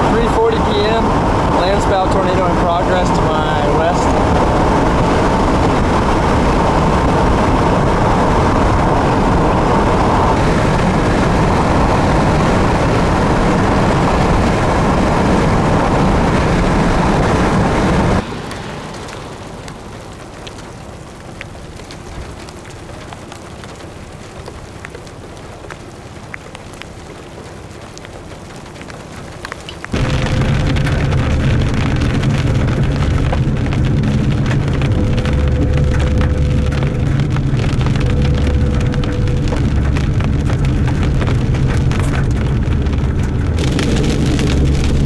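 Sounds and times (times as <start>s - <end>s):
loud steady noise with low hum: 0.0s - 45.0s
rain: 0.0s - 45.0s.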